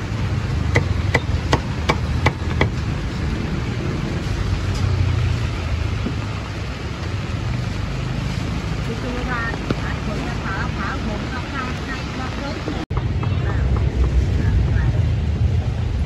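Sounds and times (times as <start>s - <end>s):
low rumble: 2.2s - 16.0s.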